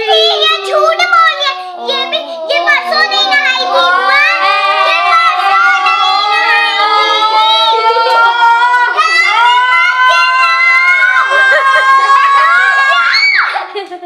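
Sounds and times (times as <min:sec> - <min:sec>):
children singing long notes: 0:00.0 - 0:13.7.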